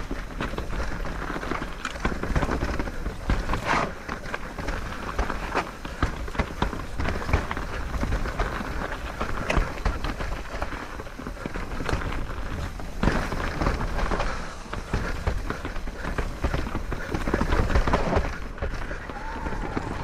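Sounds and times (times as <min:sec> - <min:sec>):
bike rattling and knocking: 0:00.0 - 0:20.0
tyres rolling over rough ground: 0:00.0 - 0:20.0.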